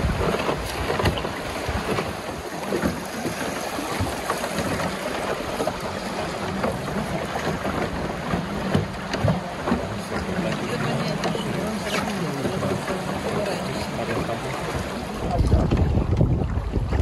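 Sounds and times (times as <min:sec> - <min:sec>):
river water rushing: 0:00.0 - 0:17.0
wind rumbling on microphone: 0:00.0 - 0:17.0.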